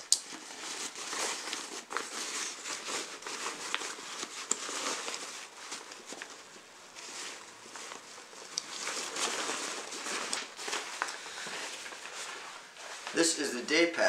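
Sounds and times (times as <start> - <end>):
fabric rustling: 0.0 - 13.7.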